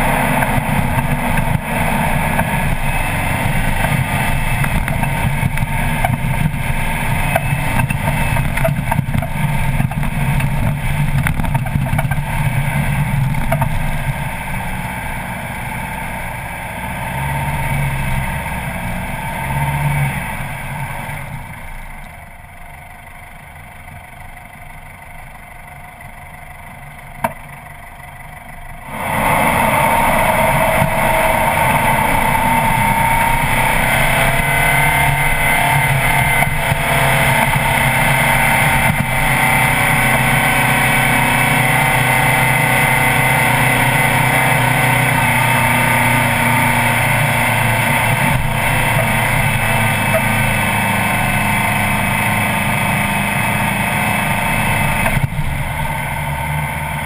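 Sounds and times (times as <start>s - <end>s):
vehicle engine under load: 0.0s - 57.0s.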